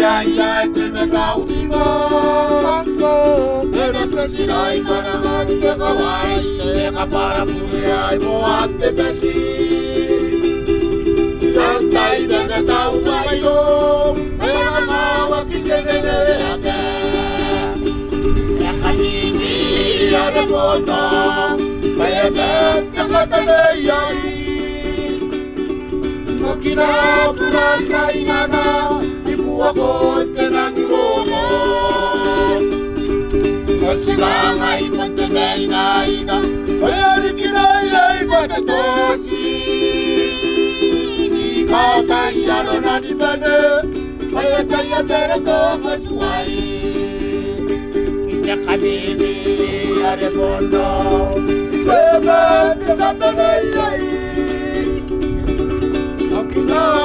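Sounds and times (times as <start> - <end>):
person singing: 0.0 - 10.4, 11.5 - 17.9, 18.5 - 25.4, 26.4 - 32.7, 33.8 - 55.0, 56.3 - 57.0
plucked strings: 0.0 - 57.0.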